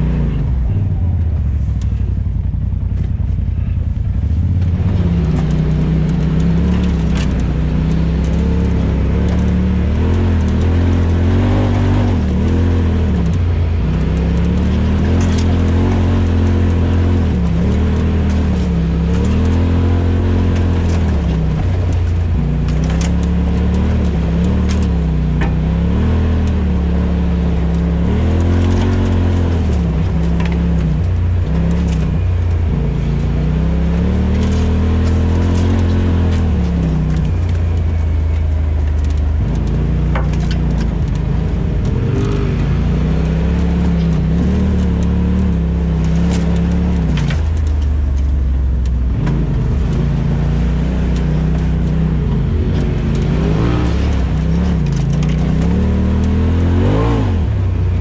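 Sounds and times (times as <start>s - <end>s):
off-road vehicle engine revving: 0.0s - 58.0s
sharp clicks and knocks: 4.6s - 57.6s.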